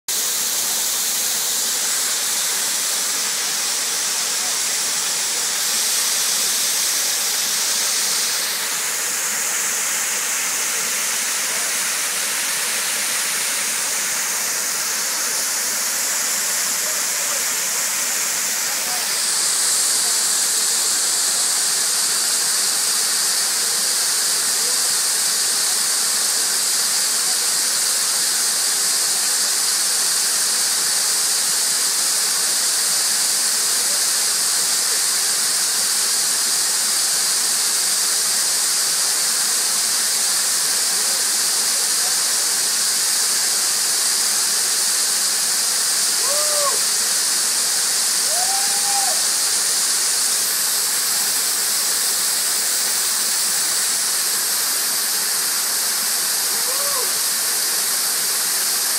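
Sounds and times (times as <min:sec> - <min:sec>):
waterfall rushing: 0:00.1 - 0:58.9.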